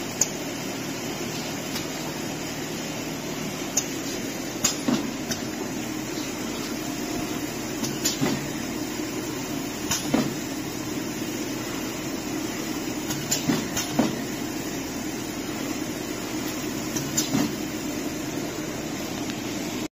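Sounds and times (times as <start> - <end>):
machine mechanical hum: 0.0 - 19.9.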